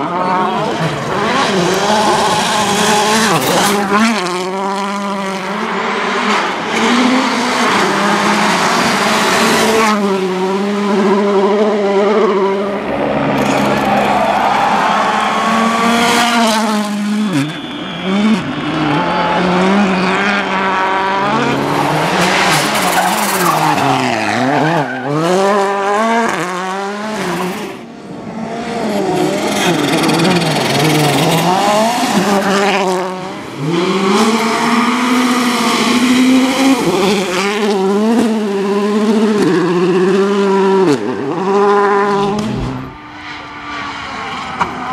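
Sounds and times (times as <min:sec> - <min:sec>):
rally car engine revving hard: 0:00.0 - 0:14.0, 0:15.0 - 0:44.8.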